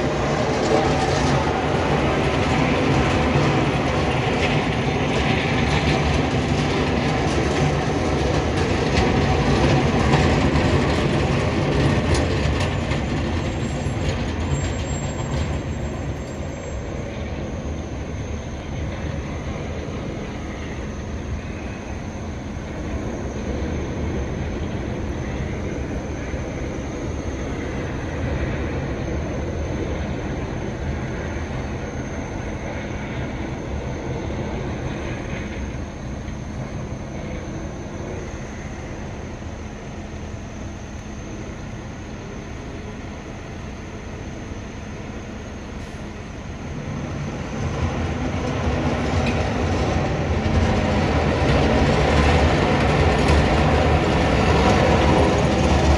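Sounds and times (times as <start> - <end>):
truck rumbling and rattling: 0.0 - 43.0, 43.6 - 55.9
road noise: 0.0 - 55.9.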